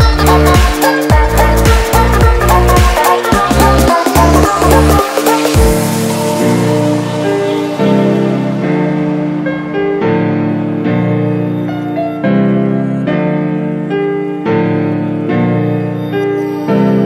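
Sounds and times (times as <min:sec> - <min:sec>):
background music sustained chords: 0:00.0 - 0:17.0.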